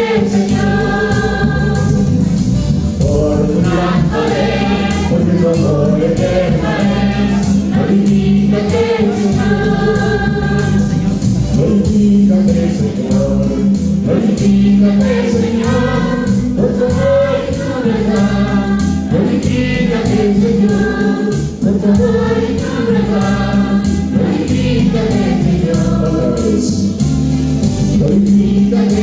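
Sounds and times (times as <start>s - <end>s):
choir singing in harmony: 0.0s - 27.1s, 27.9s - 29.0s
instrumental accompaniment with beat: 0.0s - 29.0s.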